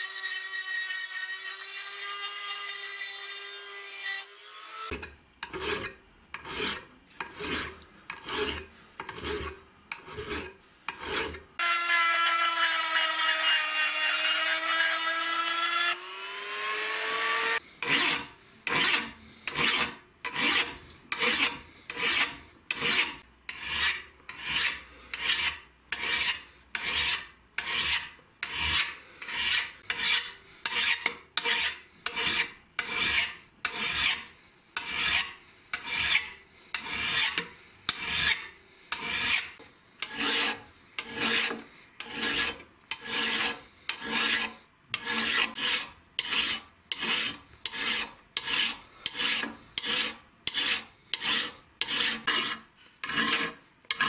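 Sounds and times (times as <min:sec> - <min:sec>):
hand file rasping on metal: 0:04.9 - 0:15.7, 0:16.8 - 0:54.0.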